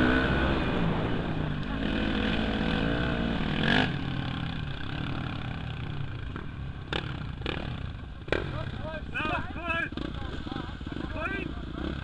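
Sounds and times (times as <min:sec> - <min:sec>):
dirt bike engine: 0:00.0 - 0:12.0.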